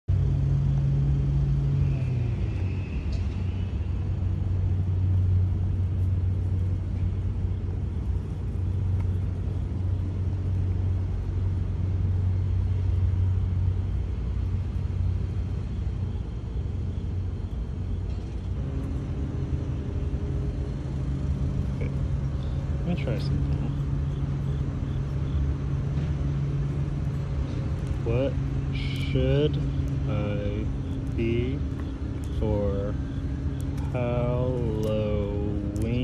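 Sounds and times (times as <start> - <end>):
low motor rumble: 0.0 - 36.0.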